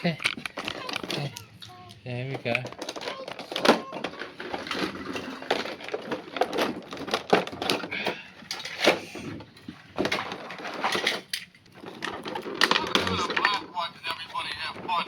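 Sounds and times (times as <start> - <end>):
plastic toy clicks and knocks: 0.0 - 9.0, 10.0 - 13.8.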